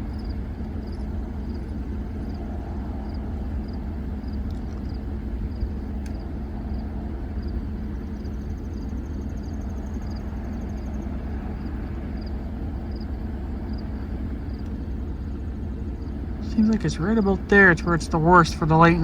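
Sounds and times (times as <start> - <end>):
crickets chirping: 0.0 - 19.0
high insect trill: 0.0 - 19.0
low rumble: 0.0 - 19.0.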